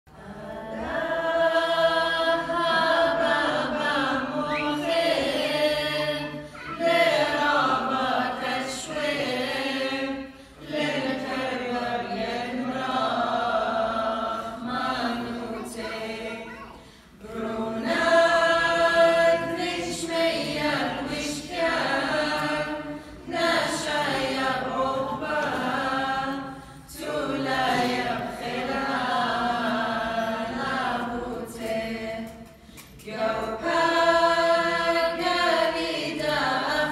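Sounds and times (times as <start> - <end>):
mixed choir singing a cappella: 0.1 - 36.9.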